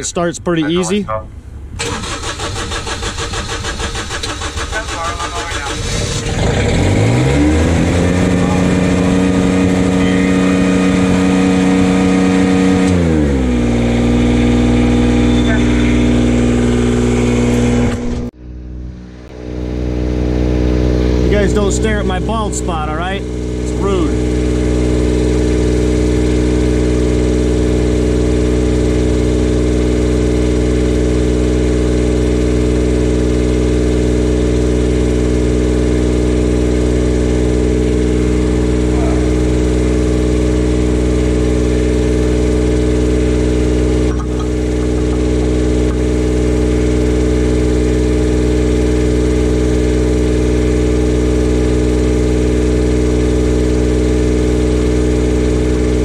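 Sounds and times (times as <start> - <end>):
diesel welder engine running: 1.8 - 56.0.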